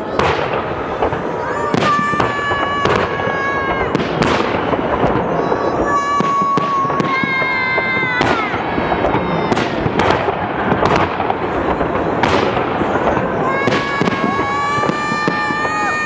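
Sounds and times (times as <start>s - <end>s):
fireworks bangs: 0.0s - 16.0s
fireworks crackling: 0.0s - 16.0s
fireworks whistling: 0.0s - 16.0s.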